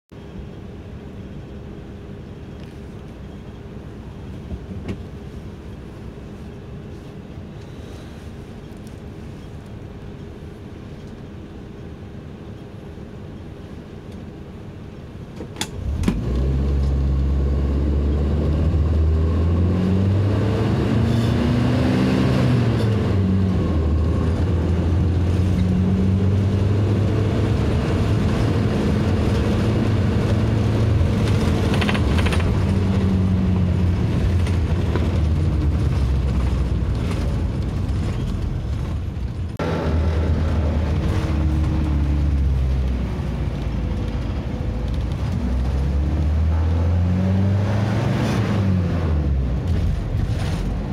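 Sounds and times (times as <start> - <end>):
bus engine accelerating: 0.2 - 50.9.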